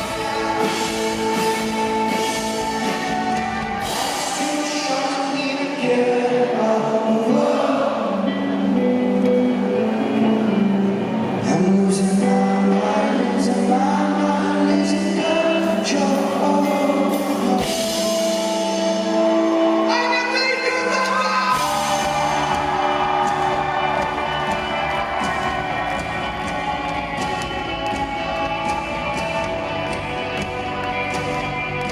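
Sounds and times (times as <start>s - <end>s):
lead singer singing: 0.0s - 30.9s
rock band playing live: 0.0s - 31.9s.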